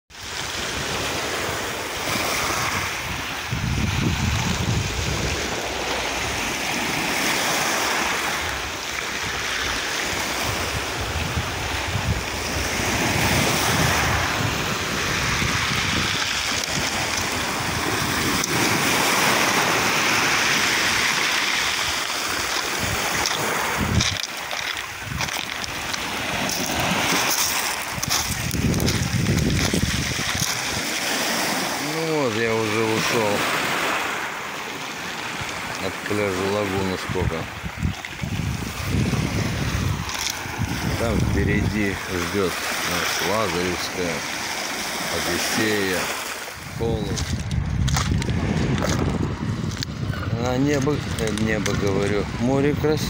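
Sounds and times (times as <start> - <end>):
sea waves breaking over rocks: 0.1 - 53.0
surf washing up pebble beach: 0.1 - 53.0.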